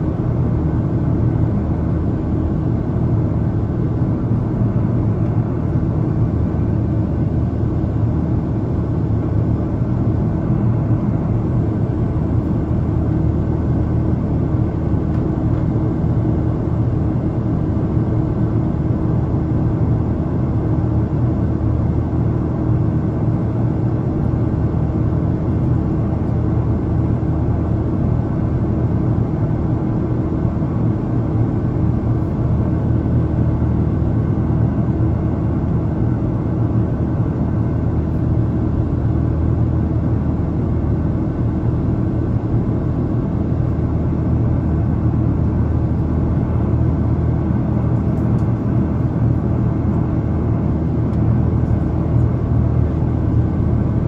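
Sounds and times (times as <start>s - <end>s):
aircraft cabin rumble: 0.0s - 54.0s
faint steady hum: 0.0s - 54.0s.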